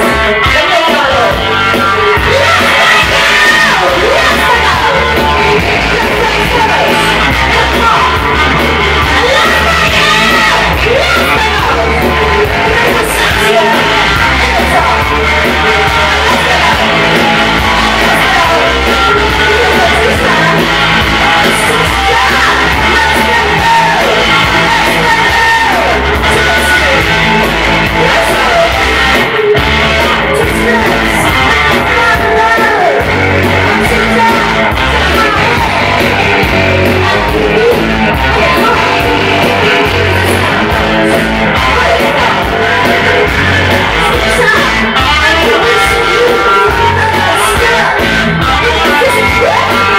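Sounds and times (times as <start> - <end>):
bass guitar: 0.0 - 49.9
electric guitar: 0.0 - 49.9.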